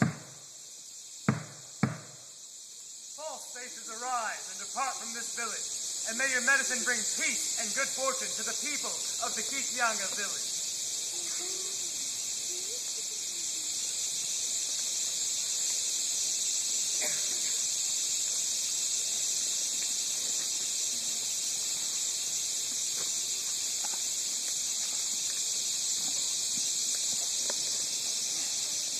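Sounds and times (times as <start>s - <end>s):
high-pitched hiss: 0.0s - 28.9s.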